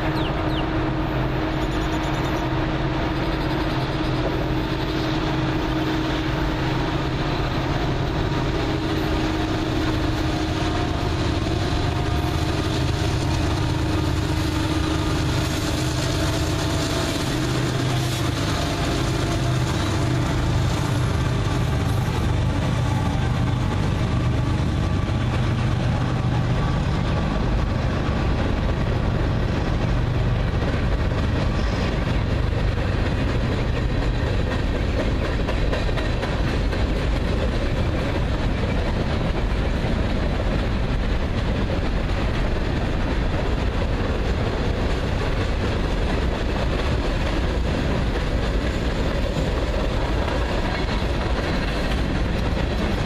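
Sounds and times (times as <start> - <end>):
diesel locomotive engine drone: 0.0 - 53.0
train wheels rumbling on rails: 0.0 - 53.0.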